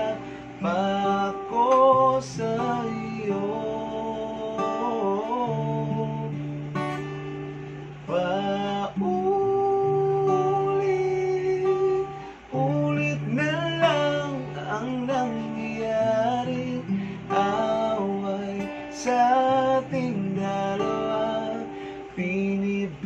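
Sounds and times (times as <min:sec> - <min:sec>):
man singing a slow ballad: 0:00.0 - 0:07.1, 0:07.8 - 0:23.0
strummed acoustic guitar: 0:00.0 - 0:23.0.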